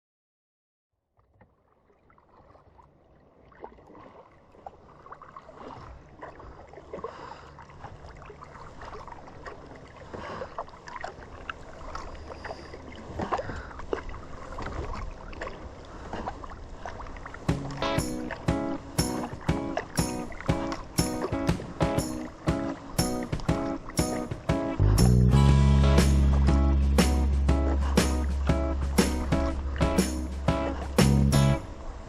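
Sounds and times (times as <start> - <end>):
paddle splashing in water: 1.2 - 32.0.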